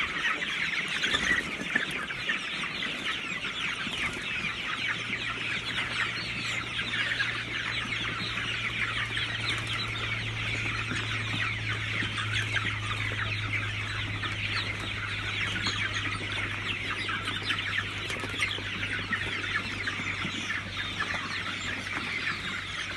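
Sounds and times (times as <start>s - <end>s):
flock of chickens calling: 0.0s - 22.9s.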